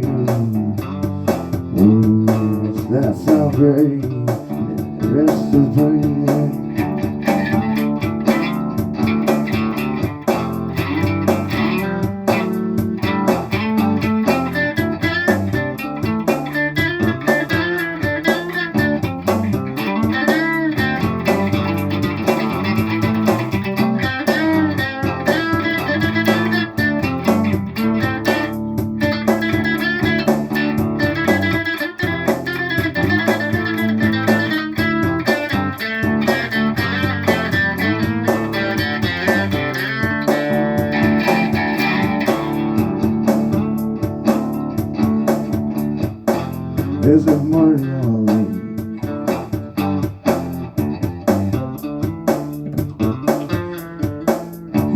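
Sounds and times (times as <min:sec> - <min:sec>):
bass line: 0:00.0 - 0:54.9
electric guitar playing: 0:00.0 - 0:54.9
steady drum beat: 0:00.0 - 0:54.9.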